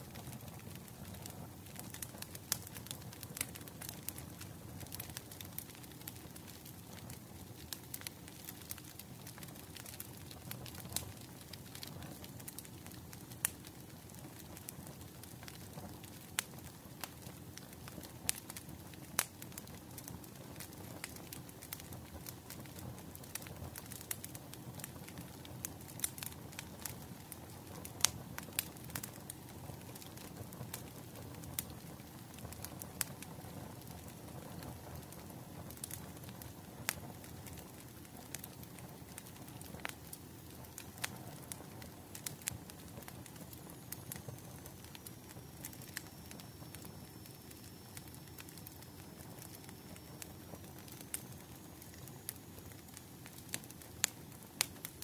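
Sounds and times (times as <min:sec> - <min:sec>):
low rumble of flames: 0:00.0 - 0:55.0
wood fire crackling and popping: 0:00.0 - 0:55.0.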